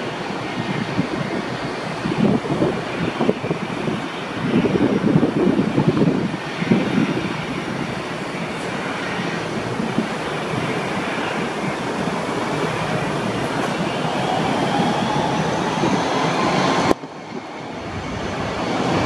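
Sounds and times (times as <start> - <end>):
jet engines rumbling: 0.0 - 19.0
faint engine whine: 1.6 - 19.0.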